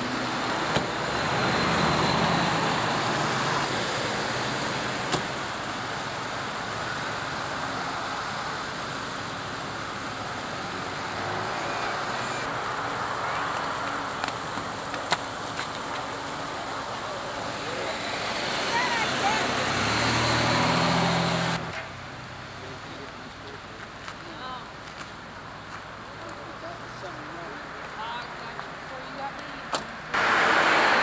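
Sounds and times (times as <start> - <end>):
highway traffic passing: 0.0 - 31.0.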